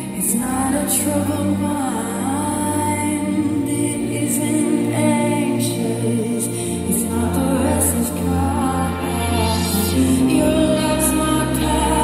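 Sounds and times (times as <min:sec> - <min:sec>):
live band and singers worship song: 0:00.0 - 0:12.0.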